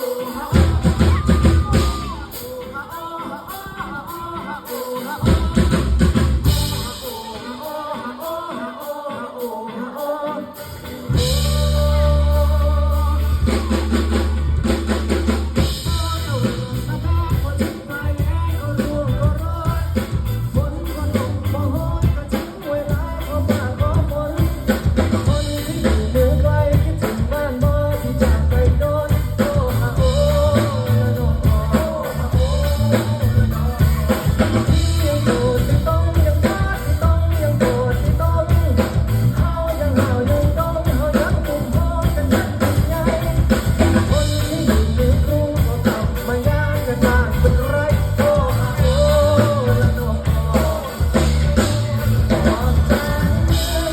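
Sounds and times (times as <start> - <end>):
pop-rock song: 0.0 - 53.9.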